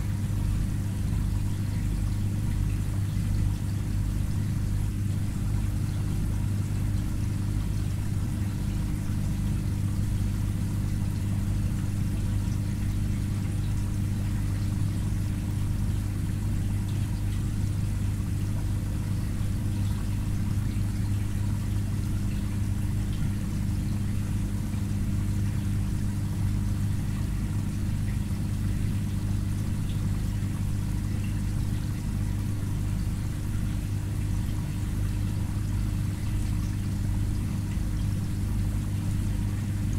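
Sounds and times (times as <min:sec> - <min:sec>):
aquarium filter humming: 0:00.0 - 0:39.9
water trickling: 0:00.0 - 0:39.9.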